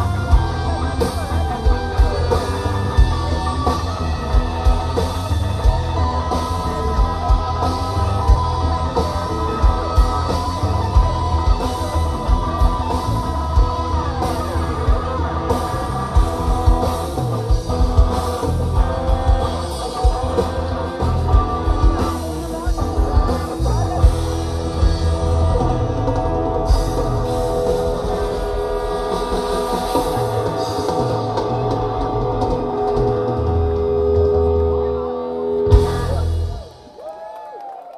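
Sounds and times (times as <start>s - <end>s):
guitar pitch glide: 0.0s - 36.7s
electric bass: 0.0s - 36.8s
electric guitars: 0.0s - 37.9s.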